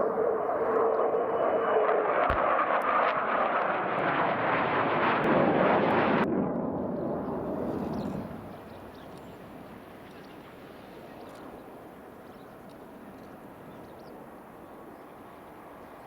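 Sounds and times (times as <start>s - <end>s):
jet roar flying past: 0.0s - 16.0s.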